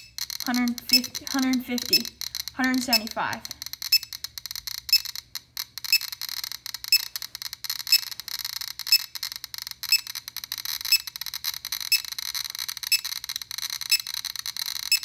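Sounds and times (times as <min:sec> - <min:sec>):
geiger counter clicking: 0:00.0 - 0:15.0.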